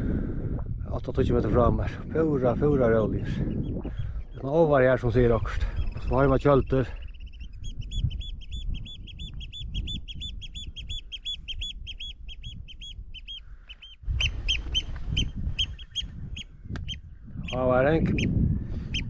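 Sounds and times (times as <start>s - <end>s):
wind rumbling on microphone: 0.0s - 19.0s
oystercatcher piping calls: 2.4s - 4.6s, 5.8s - 19.0s.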